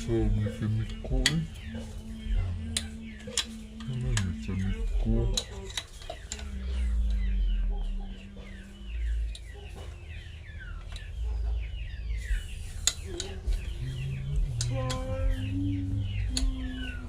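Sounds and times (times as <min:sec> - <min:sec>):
chickens chirping: 0:00.0 - 0:17.0
low rumble: 0:00.0 - 0:17.0.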